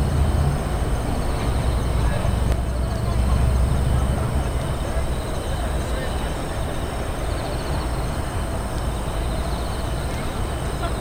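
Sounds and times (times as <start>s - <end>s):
faint murmur of voices: 1.1s - 11.0s.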